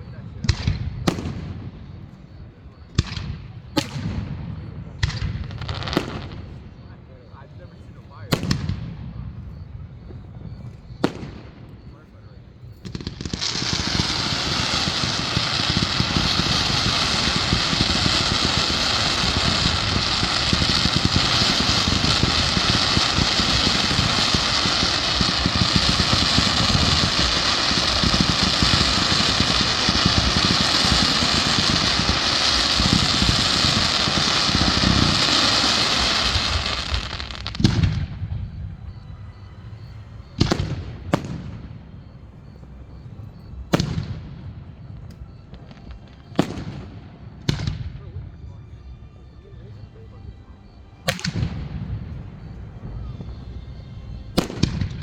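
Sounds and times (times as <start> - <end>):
sharp fireworks bangs: 0.0 - 6.9, 8.1 - 48.2, 50.6 - 55.0
fireworks crackling and popping: 0.0 - 9.2, 10.0 - 48.2, 51.0 - 55.0
fireworks low booms: 0.0 - 48.7, 49.5 - 55.0.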